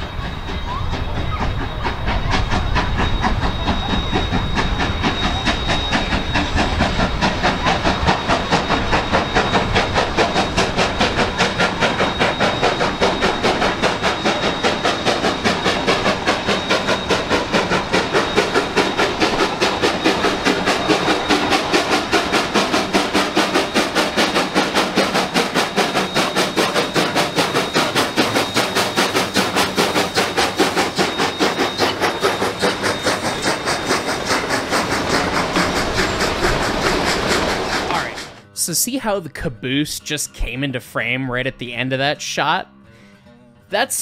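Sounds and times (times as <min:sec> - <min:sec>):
thin high whine: 0:00.0 - 0:38.9
steam locomotive exhaust chuffs: 0:00.0 - 0:42.1.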